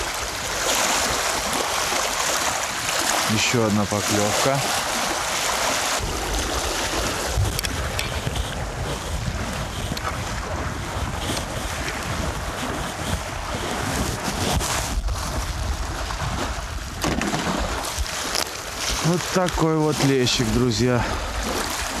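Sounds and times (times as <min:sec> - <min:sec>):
waves on choppy water: 0:00.0 - 0:22.0
wind buffeting microphone: 0:00.0 - 0:22.0.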